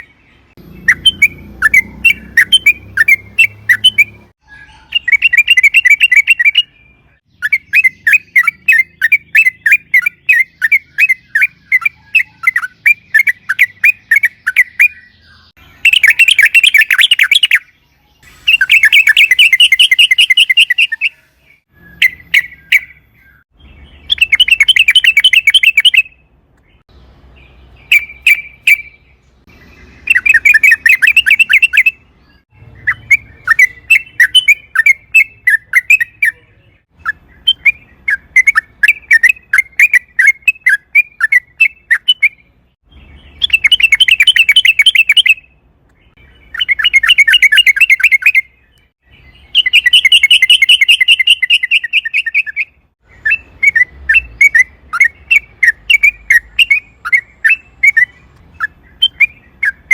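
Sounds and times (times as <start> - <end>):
bulbul singing trills: 0.0 - 59.9.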